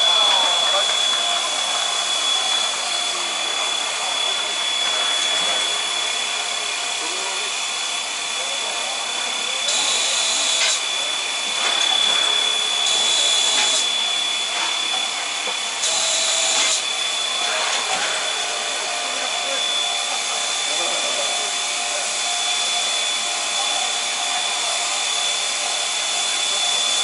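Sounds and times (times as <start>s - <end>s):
high whine: 0.0s - 25.4s
steam hissing: 0.0s - 27.0s.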